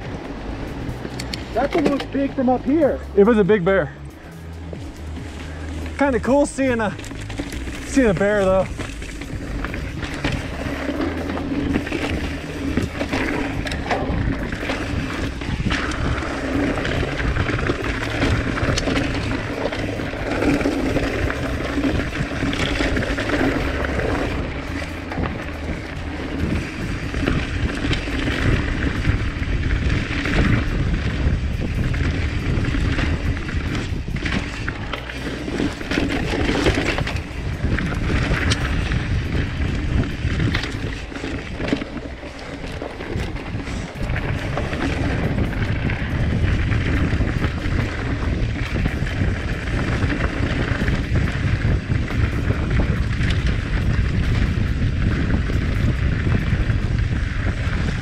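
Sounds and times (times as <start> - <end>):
bike rattling over bumps: 0.0 - 58.0
tyres rolling on dirt: 0.0 - 58.0
wind buffeting microphone: 0.0 - 58.0.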